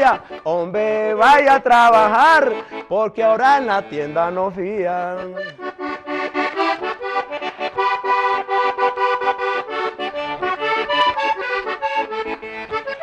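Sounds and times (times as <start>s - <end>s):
button accordion fast melody: 0.0s - 13.0s.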